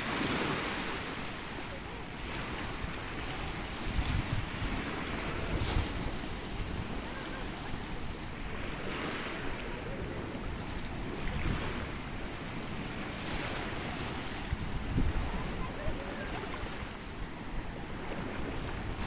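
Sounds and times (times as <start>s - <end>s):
waves washing against rocks: 0.0s - 19.0s
wind buffeting microphone: 2.0s - 19.0s.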